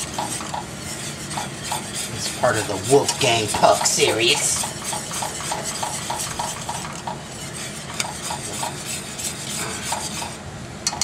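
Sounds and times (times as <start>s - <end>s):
hot gravy hissing: 0.0s - 10.4s
utensil scraping a skillet: 0.0s - 10.4s.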